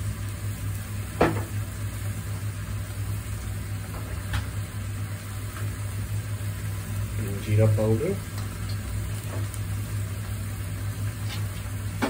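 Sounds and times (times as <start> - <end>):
sauce sizzling in a frying pan: 0.0 - 12.0
steady low hum: 0.0 - 12.0.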